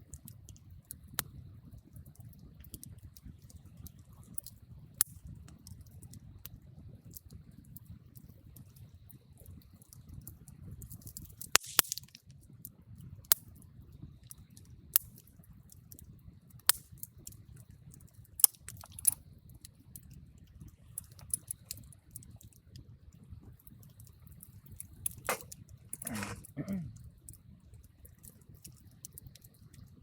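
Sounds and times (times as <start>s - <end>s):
burning wood crackling and popping: 0.0s - 30.0s
campfire flames rushing: 0.0s - 30.0s.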